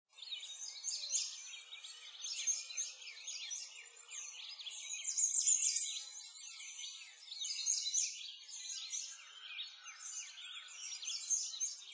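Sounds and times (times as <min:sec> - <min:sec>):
songbirds chirping and singing: 0:00.1 - 0:11.9.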